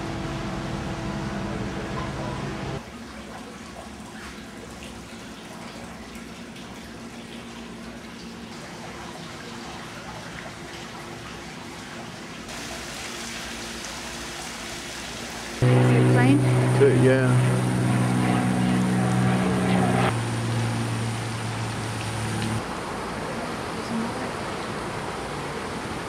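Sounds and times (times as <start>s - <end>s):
fountain water splashing: 3.0s - 26.0s.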